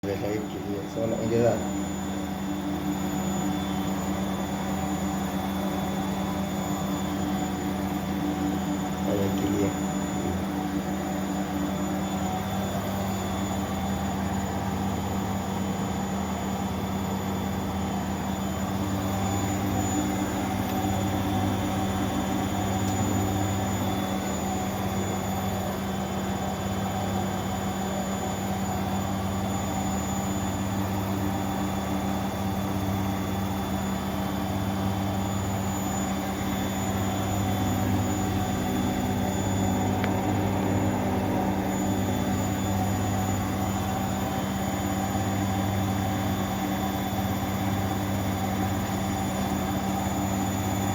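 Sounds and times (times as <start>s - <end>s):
washing machine spinning: 0.0s - 50.9s.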